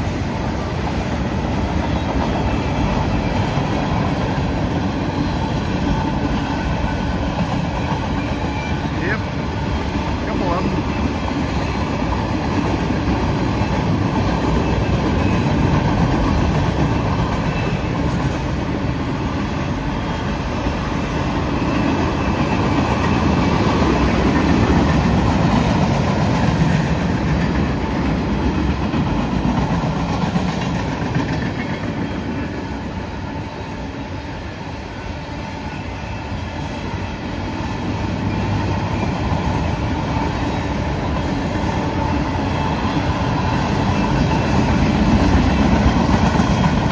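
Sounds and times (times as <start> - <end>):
freight train rolling on rails: 0.0 - 46.9.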